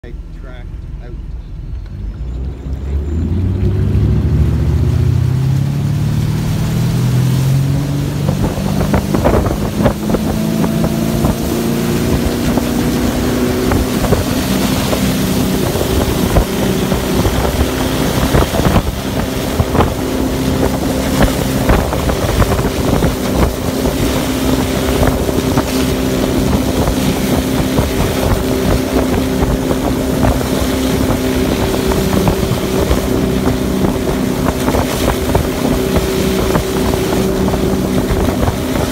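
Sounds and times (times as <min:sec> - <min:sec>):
boat engine accelerating: 0:00.0 - 0:38.9
wind on microphone: 0:03.2 - 0:38.9.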